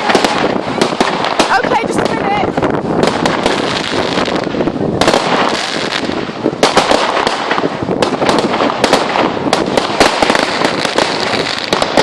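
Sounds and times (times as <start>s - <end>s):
fireworks crackling: 0.0s - 12.0s
fireworks cracks and bangs: 0.0s - 12.0s.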